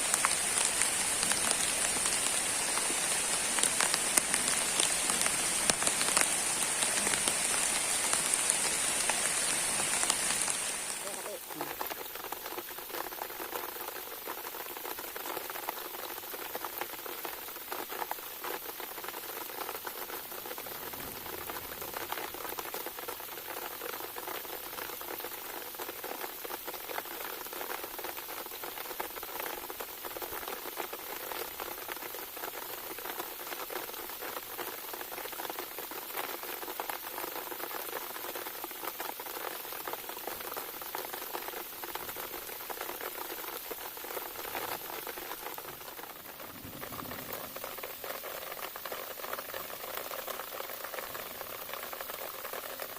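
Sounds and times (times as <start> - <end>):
heavy rain pattering: 0.0 - 52.9.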